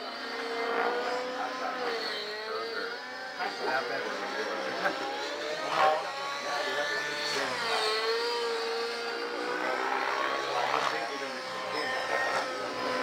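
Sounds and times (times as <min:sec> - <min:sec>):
helicopter motor and rotor whine: 0:00.0 - 0:13.0.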